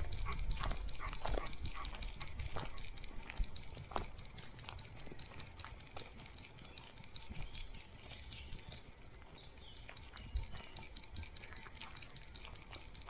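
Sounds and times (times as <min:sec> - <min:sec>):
dog paws trotting on gravel: 0:00.0 - 0:13.0.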